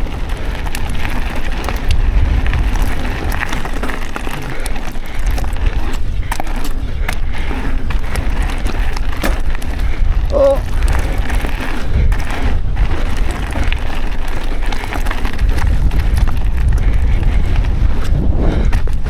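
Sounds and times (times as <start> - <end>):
bike chain and frame rattling: 0.0 - 19.0
bike tyres rolling on dirt: 0.0 - 19.0
wind rumble on microphone: 0.0 - 19.0.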